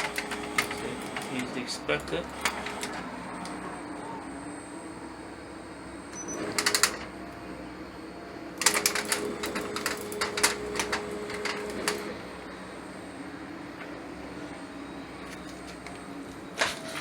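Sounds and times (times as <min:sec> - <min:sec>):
motor whine: 0:00.0 - 0:17.0.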